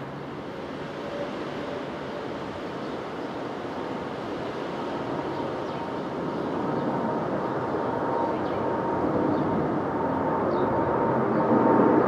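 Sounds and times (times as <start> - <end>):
jet airliner rumble and whine: 0.0 - 12.0.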